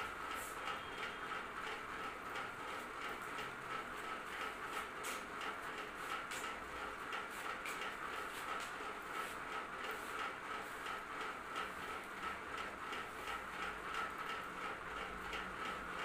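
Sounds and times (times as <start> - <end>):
ceiling fan humming and ticking: 0.0 - 16.0.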